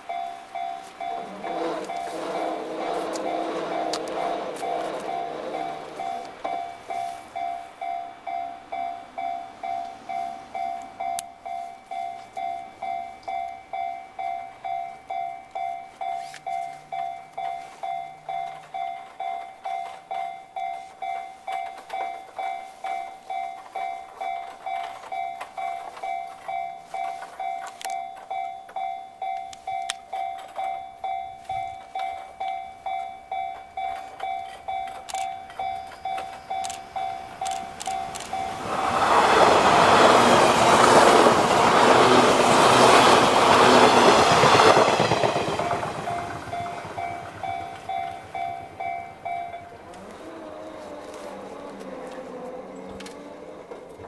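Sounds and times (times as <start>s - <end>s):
level crossing warning bell: 0.0s - 54.0s
train arriving: 0.0s - 54.0s.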